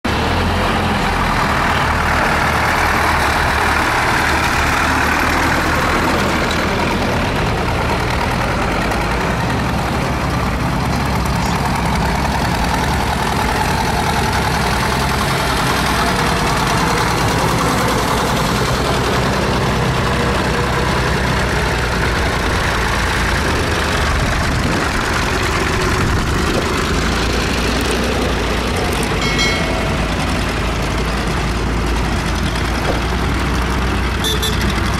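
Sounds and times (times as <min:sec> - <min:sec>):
tractor engines rumbling: 0:00.0 - 0:34.9.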